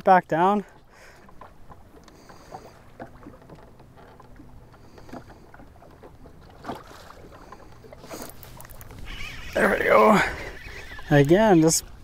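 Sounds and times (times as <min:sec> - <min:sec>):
waves slapping boat hull: 0:00.0 - 0:12.0.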